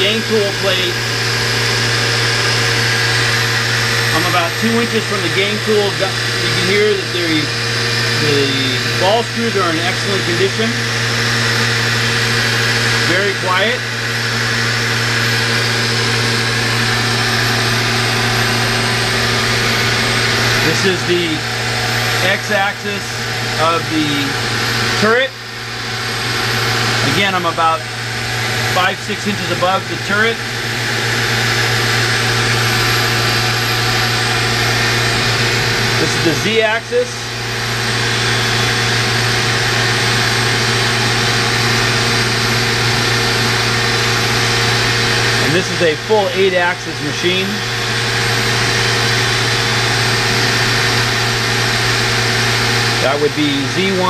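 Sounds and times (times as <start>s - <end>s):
lathe running with steady hum: 0.0s - 54.0s.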